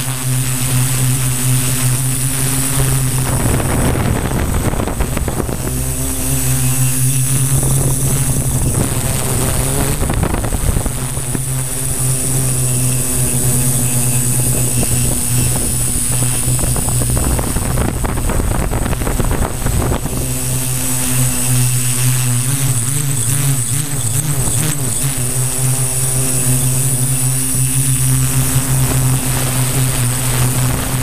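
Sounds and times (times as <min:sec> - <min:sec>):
drone motors humming and whining: 0:00.0 - 0:31.0
wind rumble on microphone: 0:00.0 - 0:31.0.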